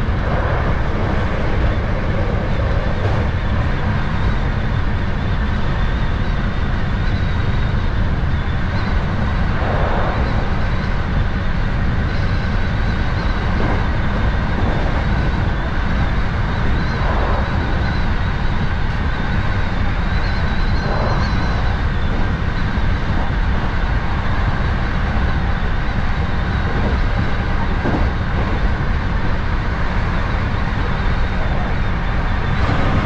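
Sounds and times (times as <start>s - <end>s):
thin steady whine: 0.0s - 33.0s
train wheels rumbling on rail: 0.0s - 33.0s.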